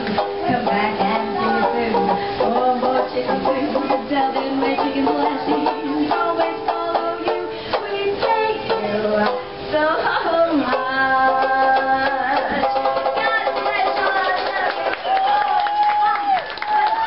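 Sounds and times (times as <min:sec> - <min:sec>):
ukulele strummed and plucked: 0:00.0 - 0:14.9.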